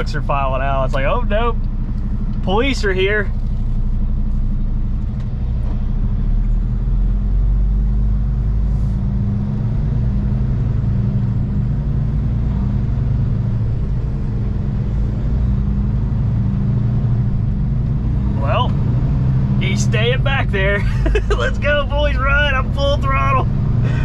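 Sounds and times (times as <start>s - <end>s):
truck diesel engine accelerating: 0.0s - 24.0s.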